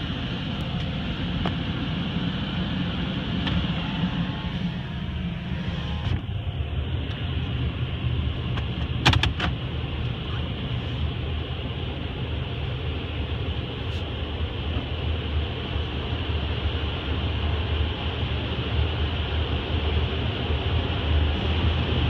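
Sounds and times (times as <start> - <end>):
muffled car wash machinery rumble: 0.0 - 22.0.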